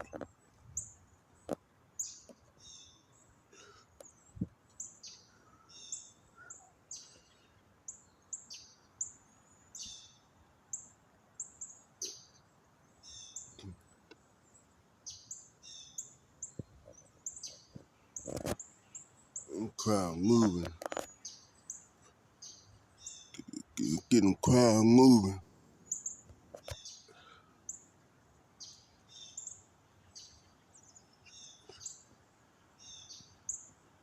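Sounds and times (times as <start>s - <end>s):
faint background noise: 0.0s - 34.0s
small birds chirping: 0.0s - 34.0s.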